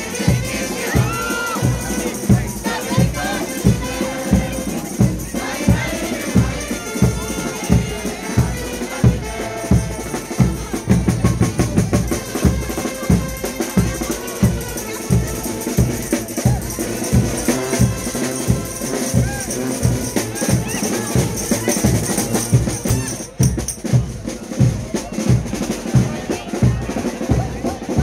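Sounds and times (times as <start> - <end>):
bass drum beat: 0.0 - 28.0
brass band playing: 0.0 - 28.0
crowd noise: 0.0 - 28.0.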